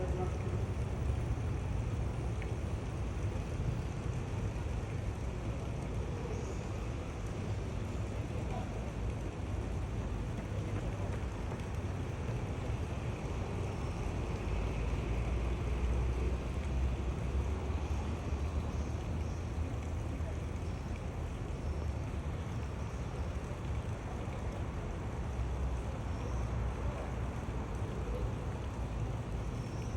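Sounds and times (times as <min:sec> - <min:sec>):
outdoor background rumble with hiss: 0:00.0 - 0:29.9.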